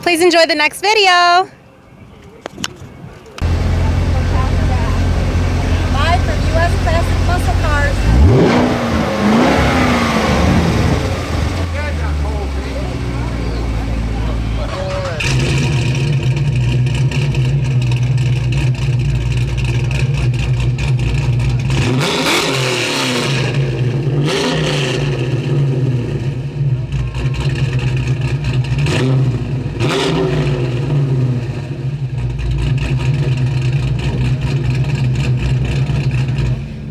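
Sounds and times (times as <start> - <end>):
car engine running: 2.6 - 36.9.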